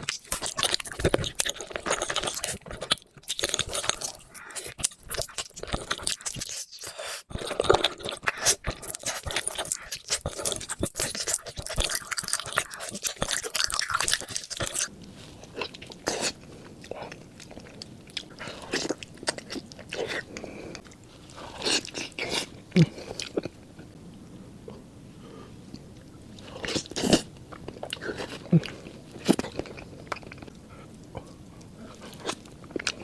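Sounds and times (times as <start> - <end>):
chewing and crunching: 0.0 - 23.9, 25.7 - 33.0.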